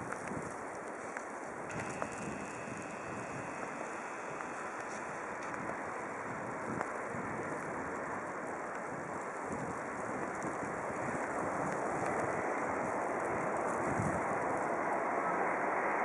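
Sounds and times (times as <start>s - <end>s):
wind on microphone: 0.0s - 0.6s, 1.6s - 15.7s
locomotive rolling: 1.5s - 15.6s.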